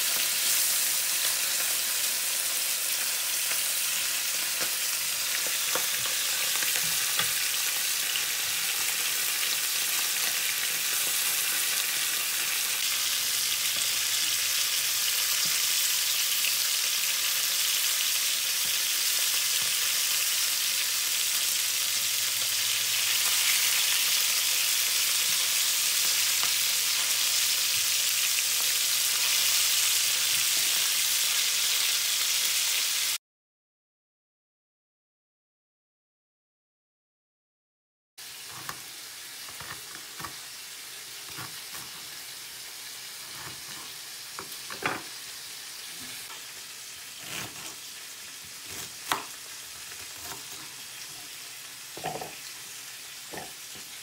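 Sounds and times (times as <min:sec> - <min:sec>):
fish sizzling in oil: 0:00.0 - 0:33.2, 0:38.2 - 0:54.0.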